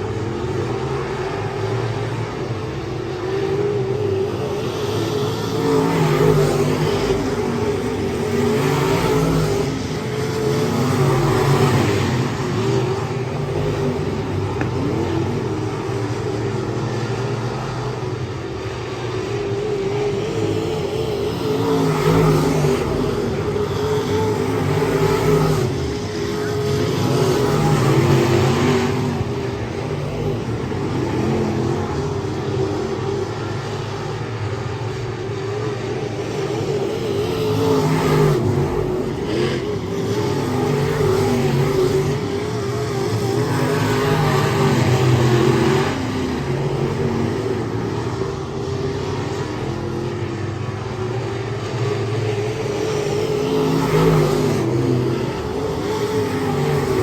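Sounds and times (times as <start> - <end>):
race car engines: 0.0 - 57.0.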